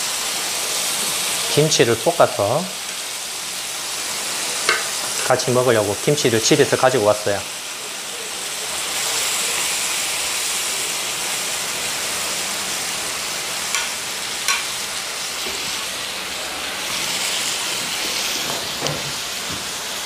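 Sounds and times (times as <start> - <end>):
meat sizzling on a grill pan: 0.0 - 20.0.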